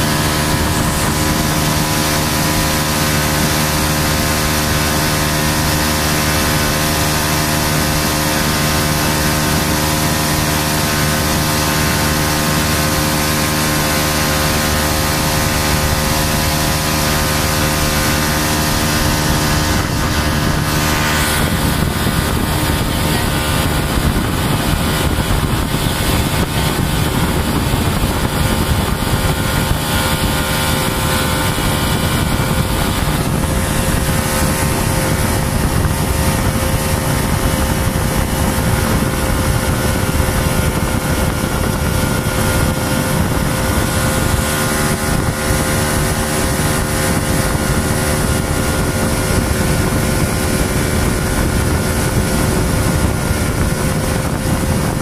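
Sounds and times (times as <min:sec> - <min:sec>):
motorboat engine droning: 0:00.0 - 0:55.0
rushing water: 0:00.0 - 0:55.0
wind on microphone: 0:00.0 - 0:55.0.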